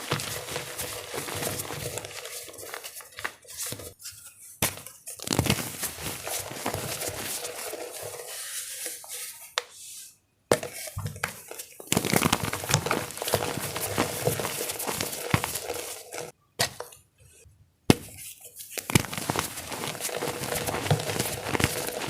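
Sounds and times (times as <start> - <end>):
wet chalk crushing and crackling: 0.0 - 9.7, 10.9 - 16.3, 18.5 - 22.0.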